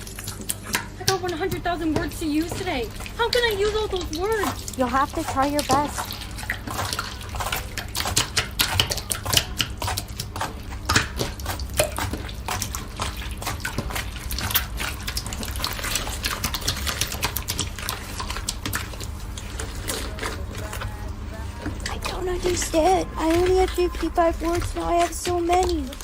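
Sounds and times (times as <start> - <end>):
slime squelching by hand: 0.0 - 26.0.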